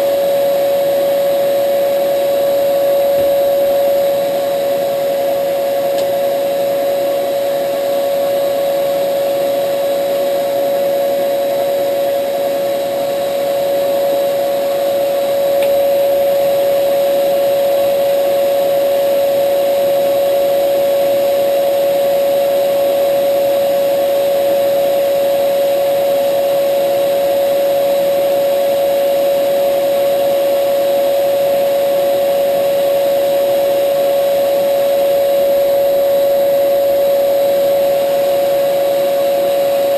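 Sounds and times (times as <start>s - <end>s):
shop vacuum cleaner whining: 0.0s - 39.9s.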